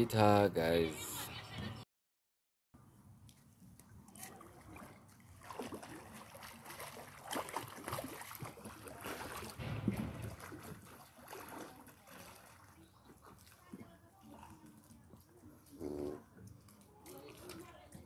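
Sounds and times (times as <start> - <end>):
pool water splashing: 3.4 - 18.0.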